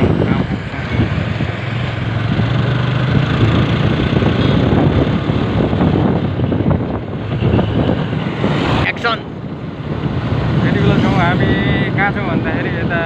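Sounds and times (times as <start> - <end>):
motorcycle engine cruising: 0.0 - 13.0
rushing wind: 0.0 - 13.0.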